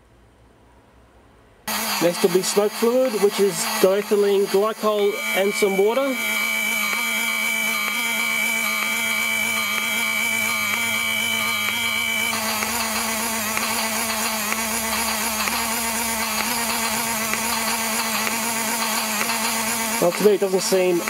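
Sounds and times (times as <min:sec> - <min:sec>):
high whine: 0:01.7 - 0:21.0
small electric motor humming: 0:01.7 - 0:21.0.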